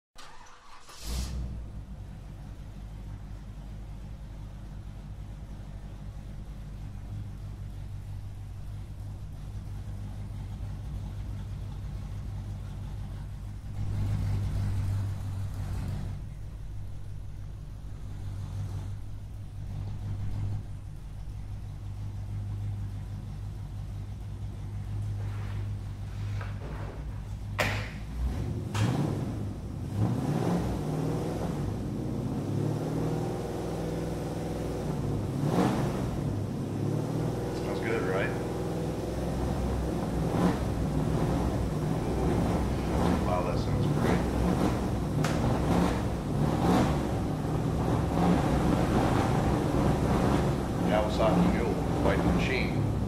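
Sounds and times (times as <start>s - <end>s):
car engine starting and idling: 0.1s - 53.0s.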